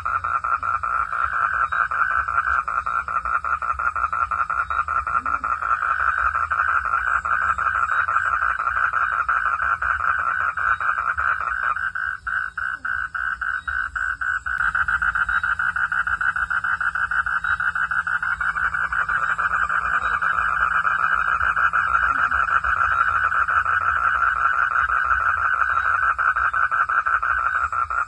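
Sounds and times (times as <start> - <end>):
frogs calling in chorus: 0.0 - 28.0.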